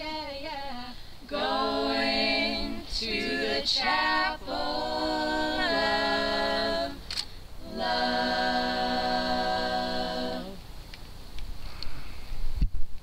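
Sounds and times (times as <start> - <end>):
women singing a cappella: 0.0 - 10.7.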